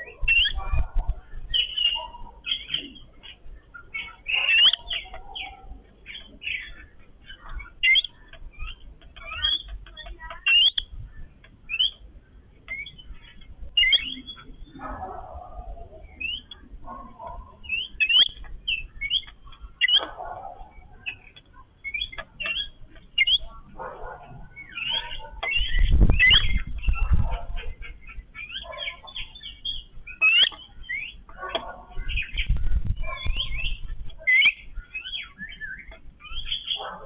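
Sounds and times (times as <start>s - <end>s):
birds squeaky chirping: 0.0s - 37.0s
harsh lower bird calls: 0.0s - 37.0s.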